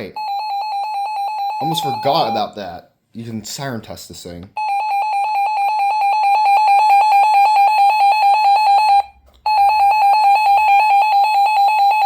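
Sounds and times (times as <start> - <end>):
rapidly pulsing alarm tone: 0.0 - 2.5, 4.6 - 12.0.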